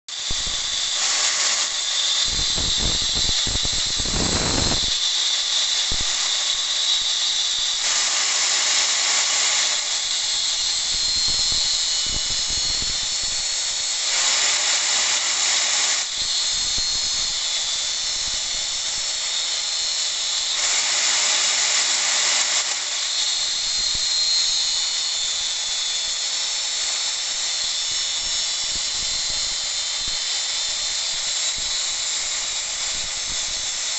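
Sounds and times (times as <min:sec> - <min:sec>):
angle grinder grinding steel: 0:00.1 - 0:33.9.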